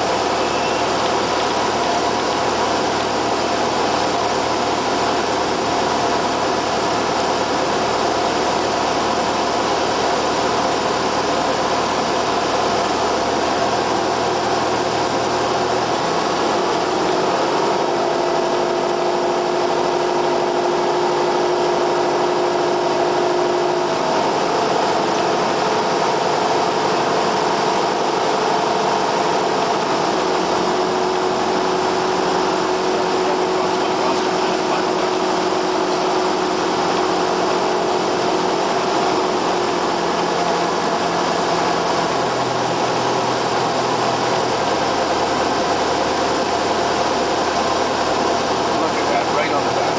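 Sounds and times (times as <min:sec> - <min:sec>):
airplane engine and propeller running: 0:00.0 - 0:49.9.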